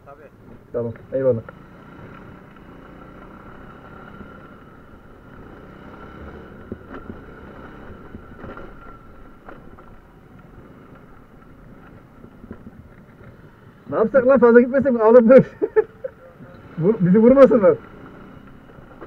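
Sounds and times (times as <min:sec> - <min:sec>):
moped engine running: 0:00.1 - 0:19.0.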